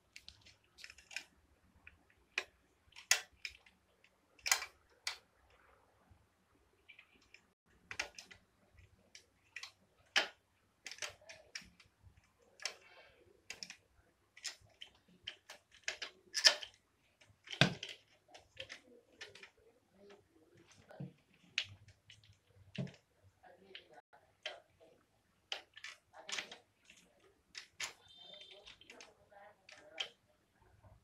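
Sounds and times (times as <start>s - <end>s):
clicks taps and knocks of parts: 0.0s - 5.4s, 6.9s - 23.1s, 25.4s - 31.0s.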